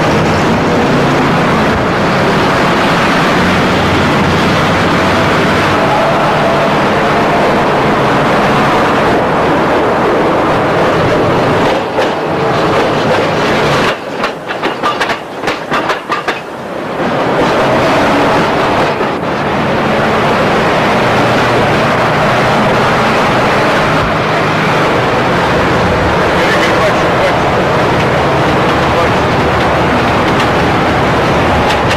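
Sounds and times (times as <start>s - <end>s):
moving vehicle running noise: 0.0s - 14.4s, 15.0s - 31.9s.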